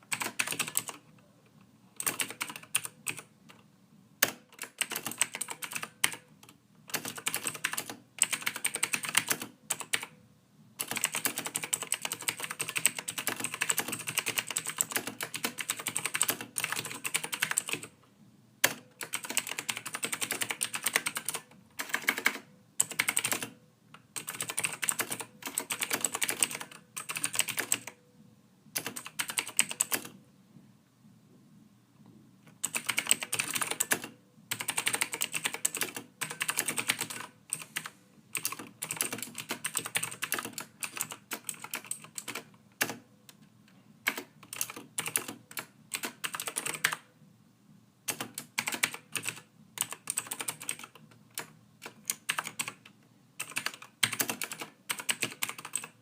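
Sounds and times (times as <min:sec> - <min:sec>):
typing on computer keyboard: 0:00.0 - 0:01.1, 0:02.0 - 0:03.6, 0:04.2 - 0:10.1, 0:10.8 - 0:17.9, 0:18.6 - 0:23.6, 0:24.2 - 0:28.0, 0:28.8 - 0:30.2, 0:32.5 - 0:43.0, 0:44.0 - 0:47.0, 0:48.1 - 0:56.0.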